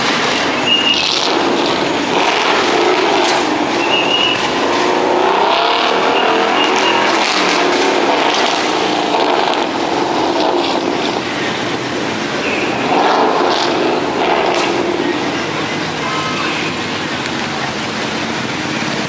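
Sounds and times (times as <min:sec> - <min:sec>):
car engines droning in traffic: 0:00.0 - 0:19.0.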